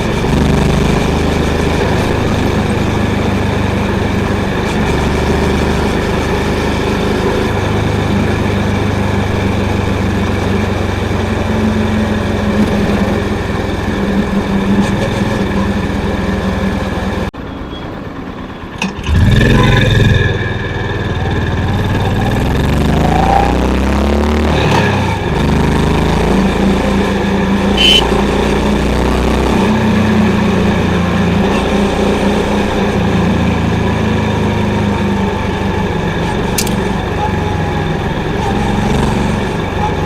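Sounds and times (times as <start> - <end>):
motorcycle engine accelerating: 0.0 - 17.4, 18.0 - 40.0.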